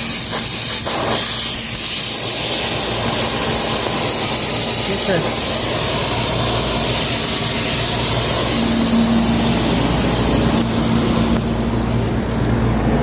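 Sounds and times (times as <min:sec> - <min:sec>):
refrigerant gas hissing: 0:00.0 - 0:13.0
steady hum: 0:00.0 - 0:13.0.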